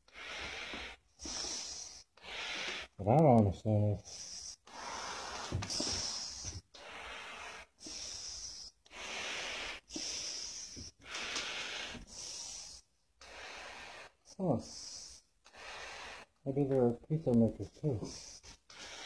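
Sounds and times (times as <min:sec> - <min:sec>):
heavy breathing through face mask: 0:00.0 - 0:03.0, 0:04.0 - 0:16.4, 0:17.8 - 0:19.0.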